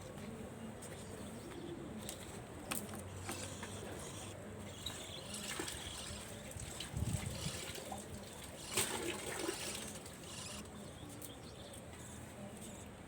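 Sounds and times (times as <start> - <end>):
pigeons cooing: 0.6 - 12.2.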